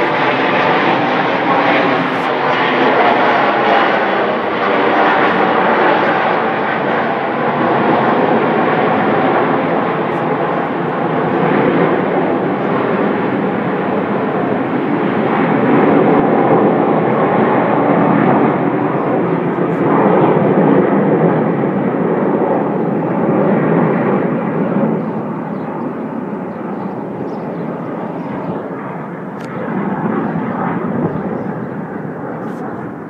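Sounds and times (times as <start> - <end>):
jets flying over: 0.0 - 33.0.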